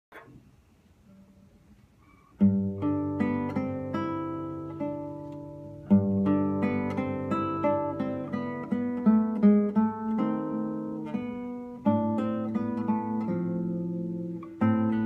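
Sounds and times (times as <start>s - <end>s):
classical guitar fingerstyle: 1.1s - 15.0s.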